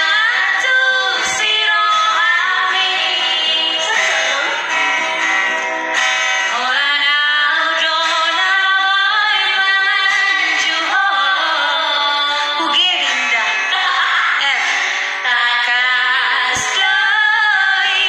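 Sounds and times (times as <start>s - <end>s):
women singing: 0.0s - 5.5s, 6.5s - 18.0s
acoustic guitar: 0.0s - 18.0s.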